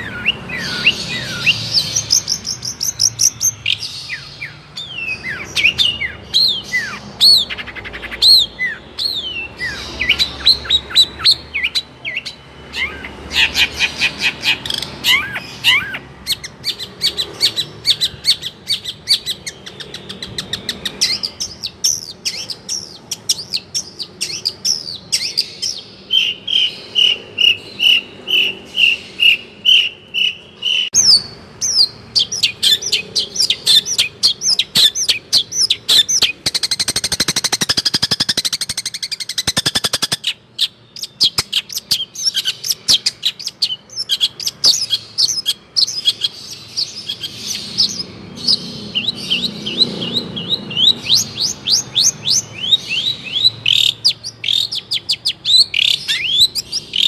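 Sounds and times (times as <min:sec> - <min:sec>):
shrike singing rapid chirps: 0:00.0 - 0:57.0.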